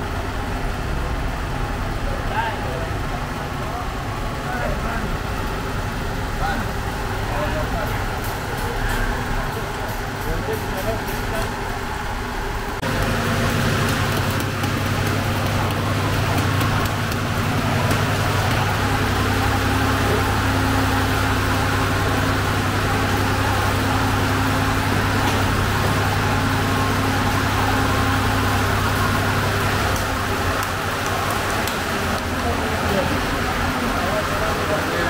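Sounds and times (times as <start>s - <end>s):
gas oven roaring: 0.0s - 35.0s.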